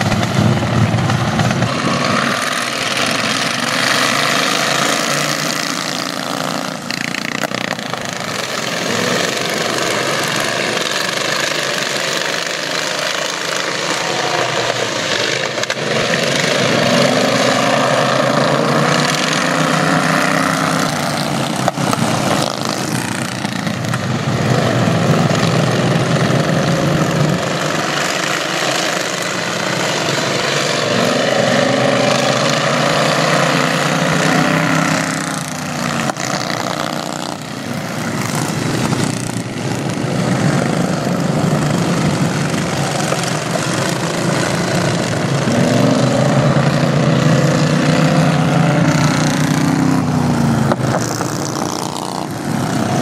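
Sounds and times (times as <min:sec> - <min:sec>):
racing lawn tractor engines: 0:00.0 - 0:53.0.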